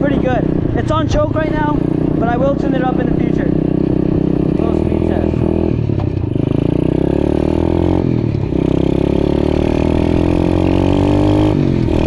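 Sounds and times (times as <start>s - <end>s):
motorbike engine accelerating: 0.0s - 12.0s.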